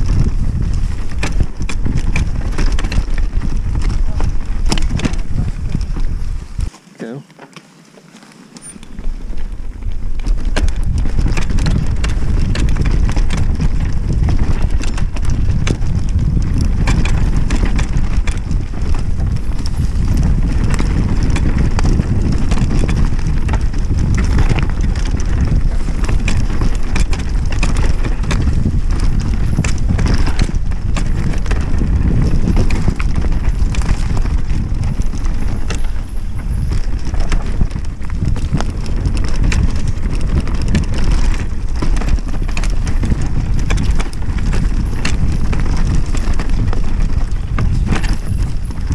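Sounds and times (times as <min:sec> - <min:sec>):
wind rumble on microphone: 0:00.0 - 0:06.8, 0:08.6 - 0:48.9
bike rattling over rough ground: 0:00.0 - 0:48.9.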